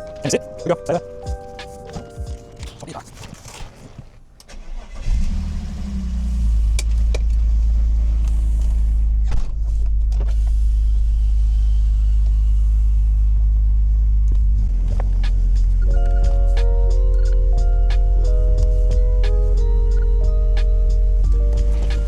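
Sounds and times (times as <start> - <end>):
car engine starting and running: 0.0 - 22.0.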